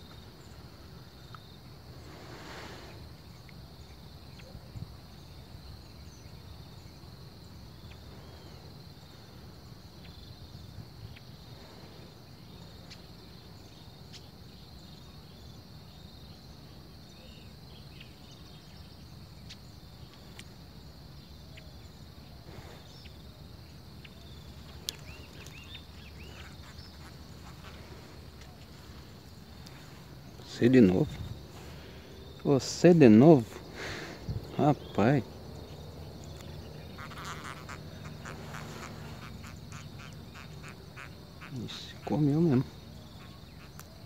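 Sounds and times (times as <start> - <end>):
high insect buzz: 0.0 - 44.0.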